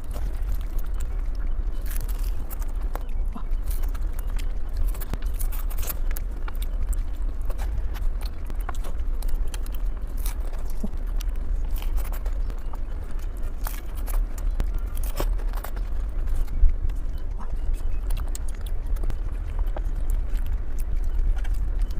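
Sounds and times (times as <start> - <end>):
person chewing with crunches: 0.0 - 21.9
steady low hum: 0.0 - 21.9.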